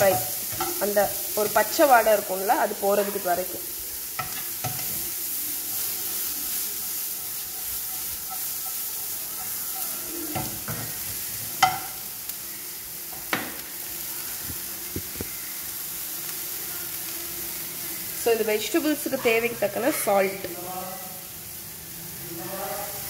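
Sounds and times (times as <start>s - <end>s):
vegetables sizzling in a frying pan: 0.0s - 23.0s.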